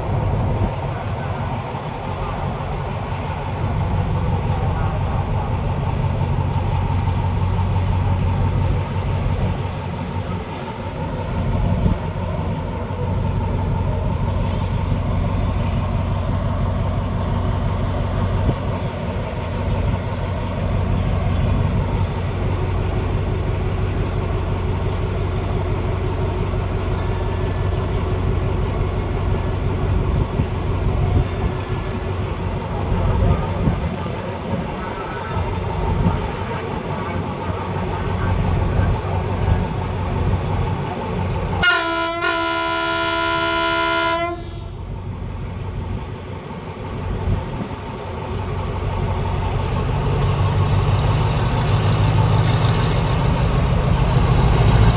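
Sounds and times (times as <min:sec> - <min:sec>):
locomotive engine pulsing: 0:00.0 - 0:54.9.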